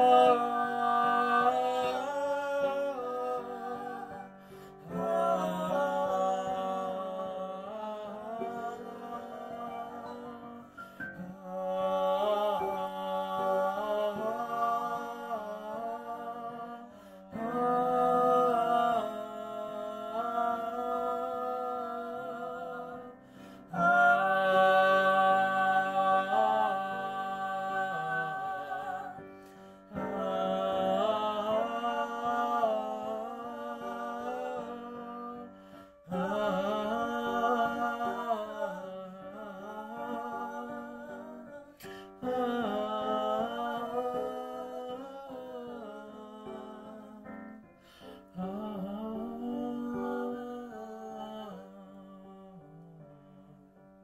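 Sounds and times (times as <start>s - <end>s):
woman and man singing in harmony: 0.0s - 53.5s.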